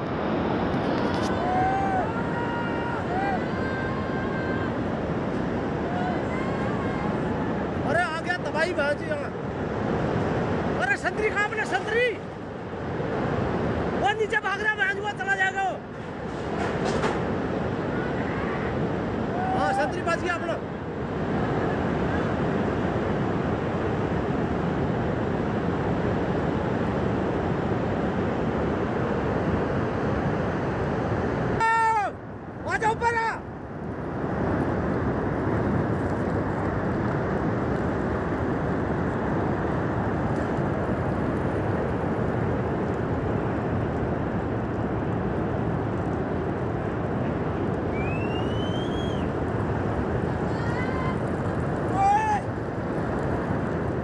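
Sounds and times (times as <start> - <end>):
torrent of rushing water: 0.0 - 54.0.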